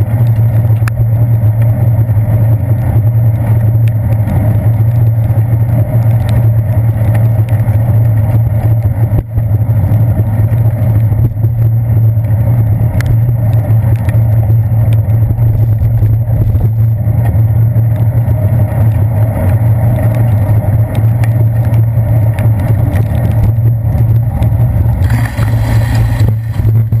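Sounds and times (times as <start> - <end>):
bicycle riding on wet road: 0.0 - 27.0.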